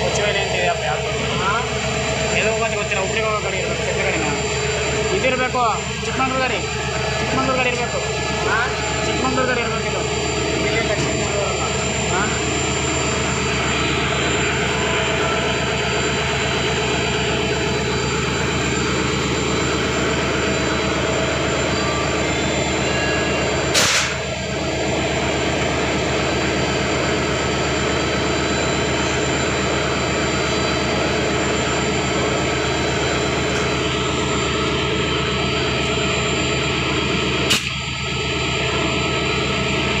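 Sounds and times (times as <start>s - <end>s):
locomotive engine and blowers running: 0.0s - 40.0s.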